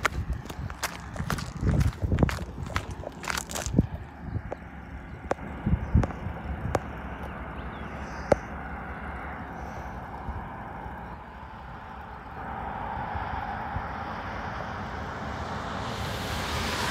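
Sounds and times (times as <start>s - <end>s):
distant train approaching: 0.0s - 16.9s
wind: 0.0s - 16.9s.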